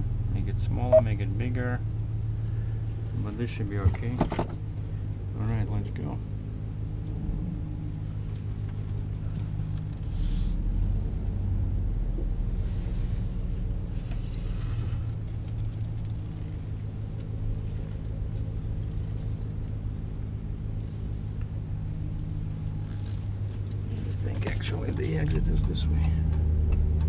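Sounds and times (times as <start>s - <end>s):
low engine rumble: 0.0s - 27.0s
road noise: 0.0s - 27.0s.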